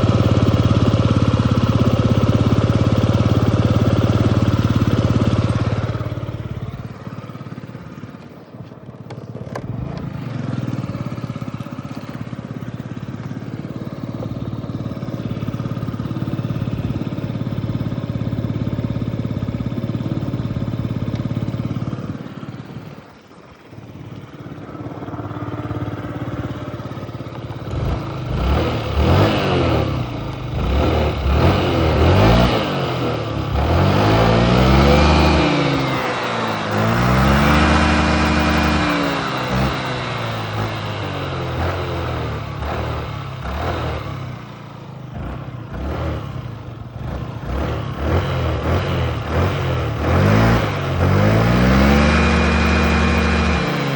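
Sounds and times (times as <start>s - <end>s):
scooter engine revving: 0.0s - 53.9s.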